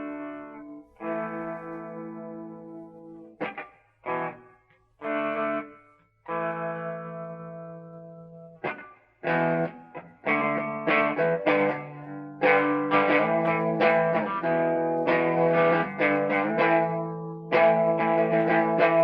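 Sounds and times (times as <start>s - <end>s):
distorted electric guitar chords: 0.0s - 19.0s.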